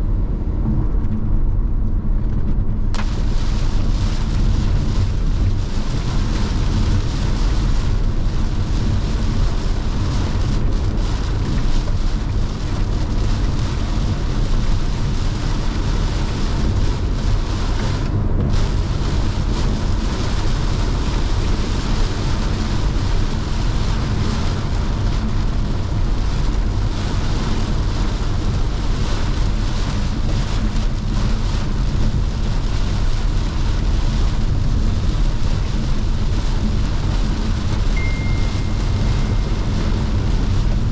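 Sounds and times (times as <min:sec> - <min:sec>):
tyre and road noise: 0:00.0 - 0:40.9
rain and wind hiss: 0:02.9 - 0:40.9.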